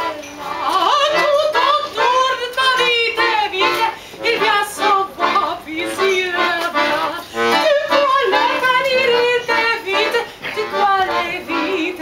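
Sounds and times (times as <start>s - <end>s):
instrumental accompaniment: 0.0s - 12.0s
person singing with vibrato: 0.0s - 12.0s.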